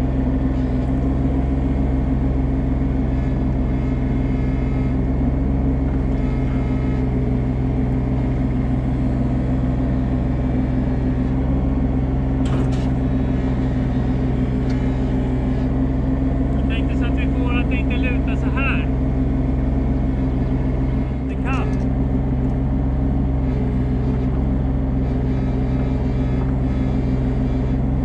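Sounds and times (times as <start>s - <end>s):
mini excavator diesel engine: 0.0s - 28.0s.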